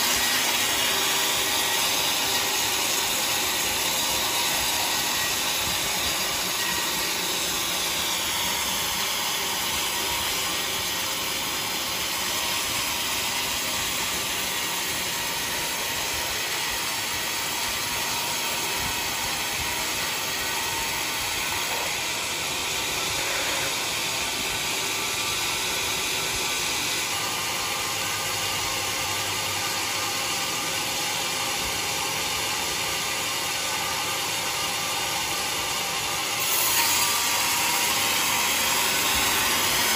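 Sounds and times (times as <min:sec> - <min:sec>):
sawmill saw running: 0:00.0 - 0:39.9.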